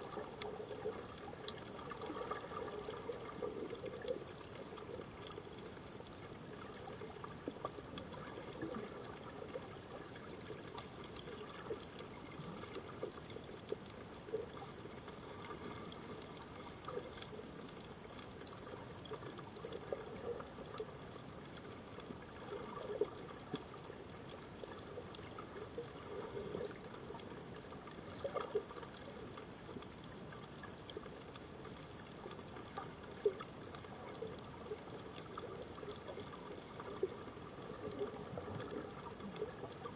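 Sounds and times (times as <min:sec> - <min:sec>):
faint clicks and crackles: 0:00.0 - 0:39.9
steady underwater hiss: 0:00.0 - 0:39.9.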